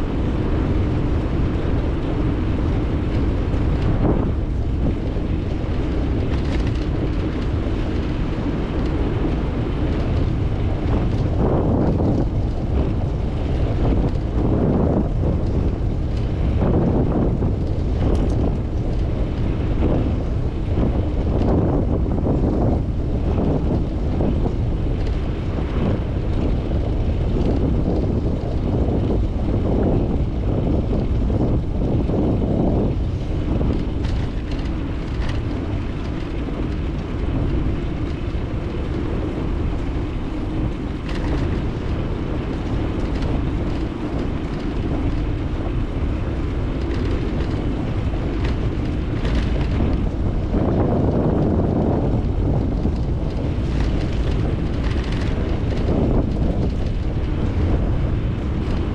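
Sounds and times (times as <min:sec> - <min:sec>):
bicycle clicks and rattles: 0:00.0 - 0:58.9
wind rushing over microphone: 0:00.0 - 0:58.9.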